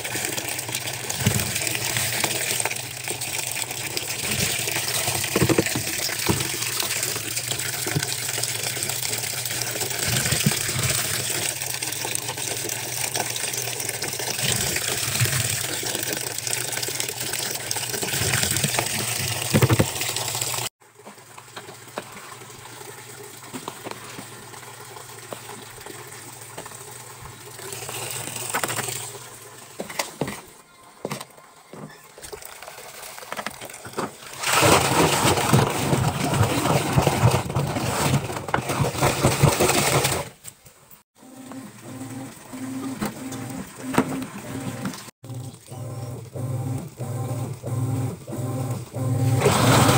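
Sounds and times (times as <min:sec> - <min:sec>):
water pouring into washing machine: 0:00.0 - 0:29.8, 0:32.1 - 0:40.3, 0:41.2 - 0:49.9.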